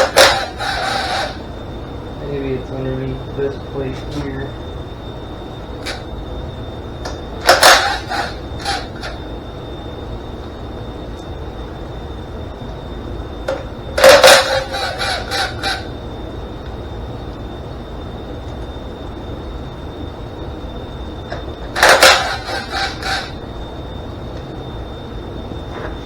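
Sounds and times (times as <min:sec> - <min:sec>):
faint high-pitched whine: 0:00.0 - 0:26.0.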